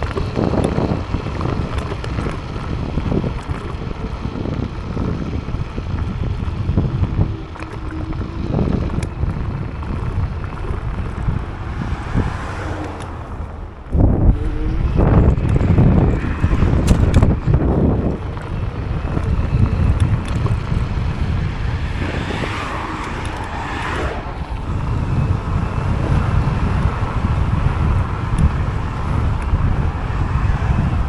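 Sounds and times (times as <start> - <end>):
sharp clicks and rattles: 0.0 - 30.3
scooter road rumble: 0.0 - 31.0
wind buffeting microphone: 0.0 - 31.0.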